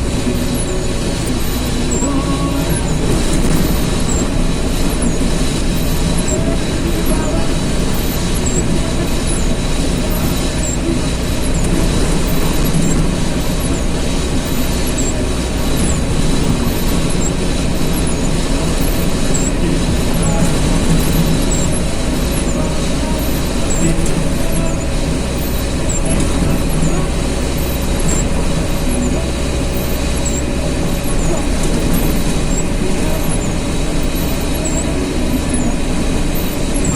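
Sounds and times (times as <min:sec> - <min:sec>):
road noise: 0:00.0 - 0:36.9
vehicle engine: 0:00.0 - 0:36.9.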